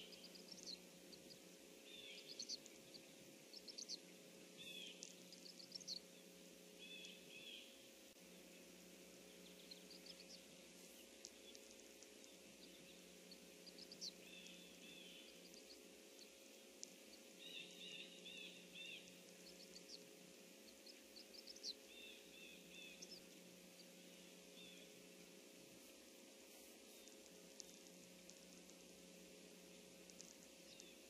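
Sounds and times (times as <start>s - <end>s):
faint birdsong: 0.0s - 31.0s
steady low hum: 0.0s - 31.0s.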